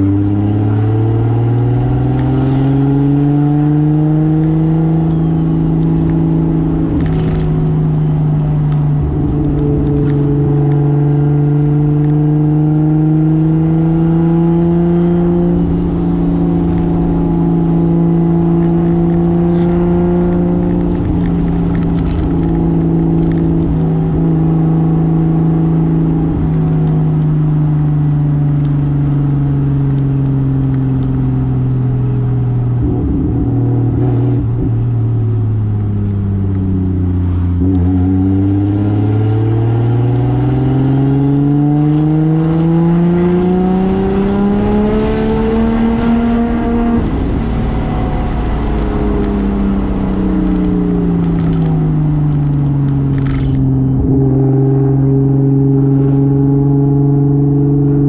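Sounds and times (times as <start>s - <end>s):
car engine pulling: 0.2s - 57.0s.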